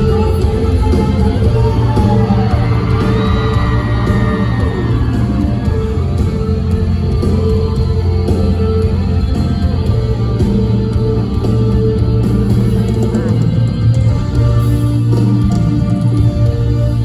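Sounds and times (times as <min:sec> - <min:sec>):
audience screaming and whooping: 0:00.0 - 0:17.0
live rock band playing: 0:00.0 - 0:17.0.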